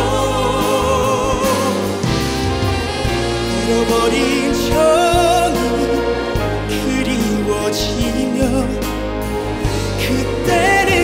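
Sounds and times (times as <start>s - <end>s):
man singing a slow ballad: 0.0s - 2.3s, 3.3s - 11.0s
orchestral accompaniment: 0.0s - 11.0s.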